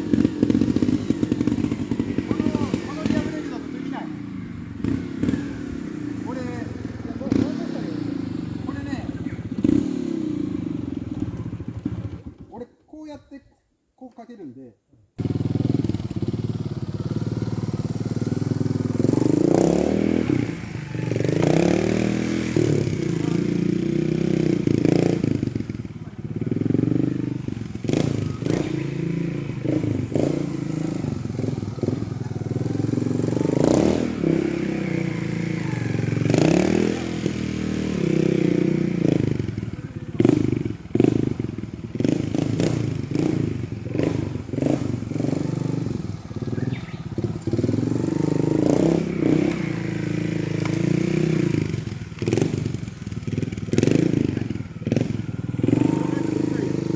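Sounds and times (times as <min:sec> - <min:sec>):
motorcycle engine throttle blips: 0:00.0 - 0:12.6, 0:15.2 - 0:56.9.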